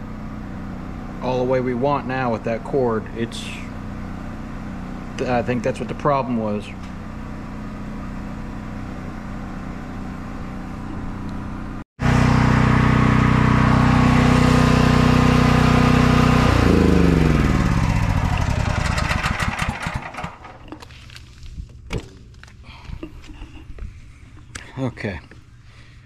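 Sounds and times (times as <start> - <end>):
generator engine running: 0.0 - 21.0
mechanical hum: 0.0 - 26.0.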